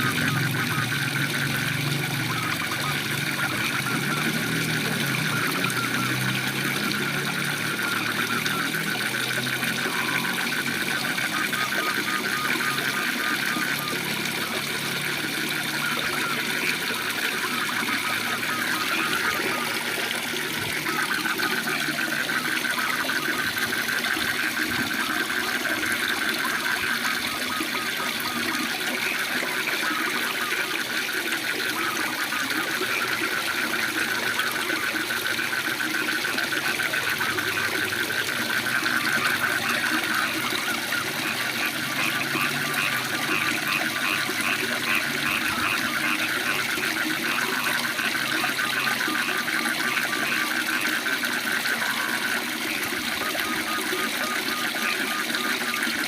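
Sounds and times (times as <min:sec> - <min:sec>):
frogs calling in a pulsing trill: 0:00.0 - 0:56.0.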